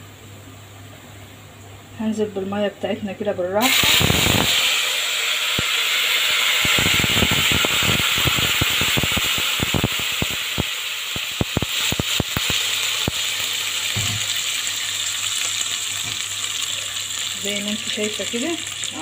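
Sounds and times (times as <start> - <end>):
oil popping and crackling: 3.6 - 19.0
water sizzling in hot oil: 3.6 - 19.0.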